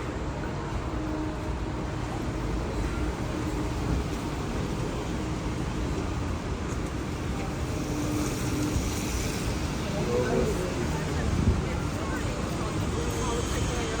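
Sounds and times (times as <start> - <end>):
ferry engine rumble: 0.0 - 14.0.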